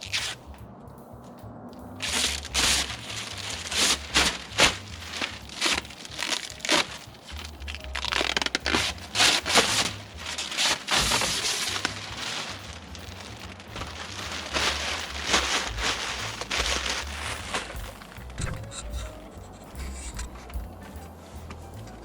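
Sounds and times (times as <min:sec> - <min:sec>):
plastic film peeling and crinkling: 0:00.0 - 0:00.5, 0:02.0 - 0:20.5.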